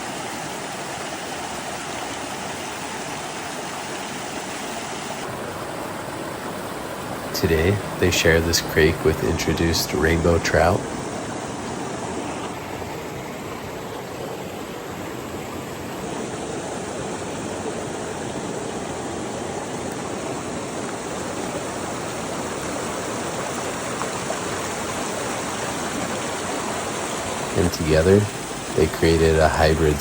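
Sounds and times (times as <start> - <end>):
creek flowing: 0.0 - 30.0.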